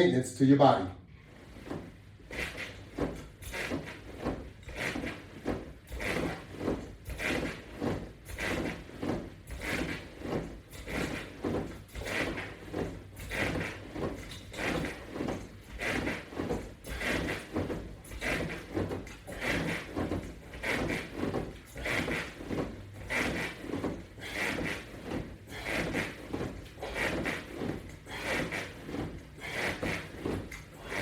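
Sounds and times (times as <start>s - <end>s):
rhythmic sliding rubbing: 1.4s - 31.0s.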